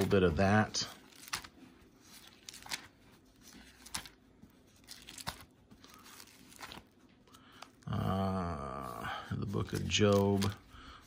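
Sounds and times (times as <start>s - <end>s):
paper pages rustling: 0.0s - 7.8s, 8.8s - 11.0s.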